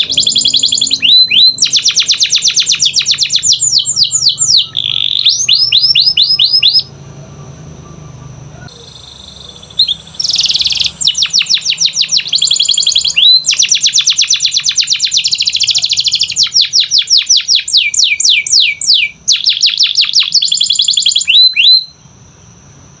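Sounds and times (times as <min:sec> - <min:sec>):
canary singing trills: 0:00.0 - 0:22.6.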